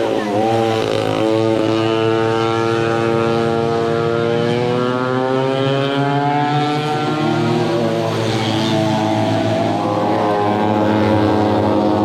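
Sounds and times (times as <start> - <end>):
go-kart engine accelerating: 0.0 - 12.0
go-kart engine steady note: 0.0 - 12.0.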